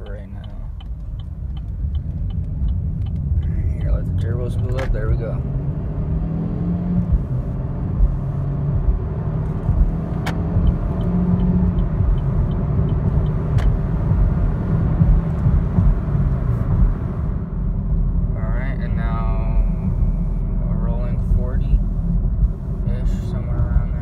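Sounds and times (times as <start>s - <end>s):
car engine accelerating hard: 0.0s - 24.0s
road noise: 0.0s - 24.0s.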